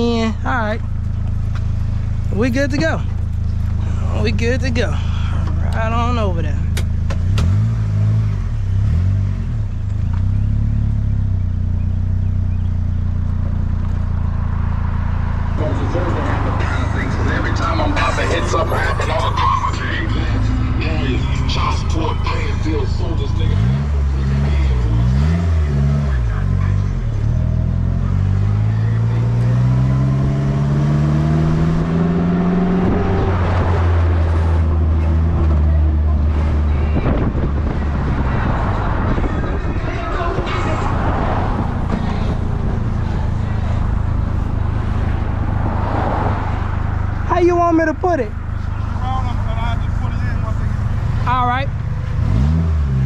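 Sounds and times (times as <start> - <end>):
vehicle engine revving: 0.0 - 53.0.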